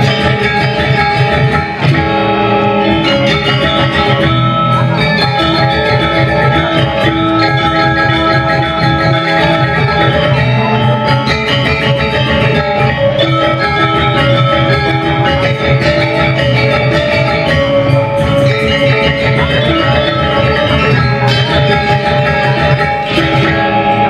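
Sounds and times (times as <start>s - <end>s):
gamelan orchestra playing: 0.0s - 24.0s.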